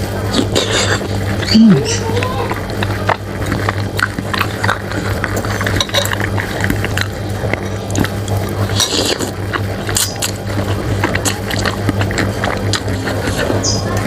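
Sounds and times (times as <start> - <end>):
low hum: 0.0 - 14.0
person slurping: 0.3 - 1.9, 2.8 - 14.0.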